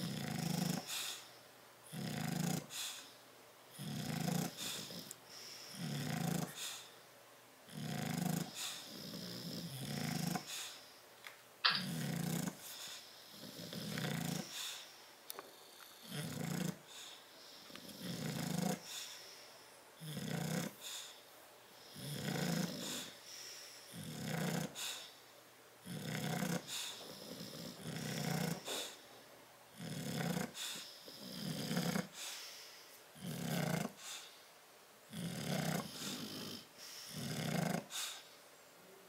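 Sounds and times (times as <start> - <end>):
dog snoring: 0.0 - 1.3, 1.9 - 3.1, 3.7 - 7.0, 7.7 - 10.8, 11.7 - 19.4, 20.0 - 21.2, 21.8 - 25.2, 25.8 - 29.0, 29.7 - 34.4, 35.1 - 38.3.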